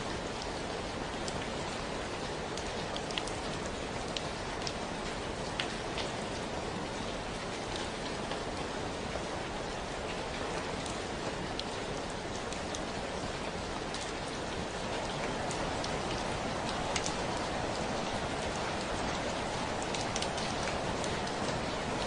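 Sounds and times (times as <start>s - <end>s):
raindrops ticking on surfaces: 0.0s - 22.0s
steady rain hiss: 0.0s - 22.0s.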